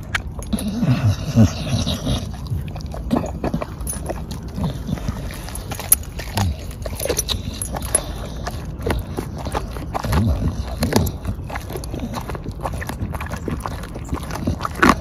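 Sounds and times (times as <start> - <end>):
dog chewing bones: 0.0 - 15.0.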